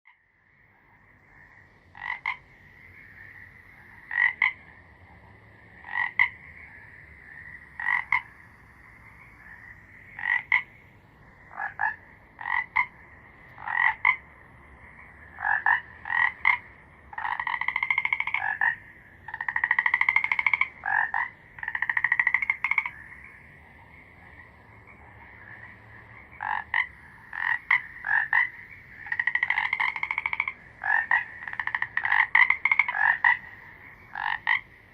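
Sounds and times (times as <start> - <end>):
frogs croaking: 0.1 - 34.9.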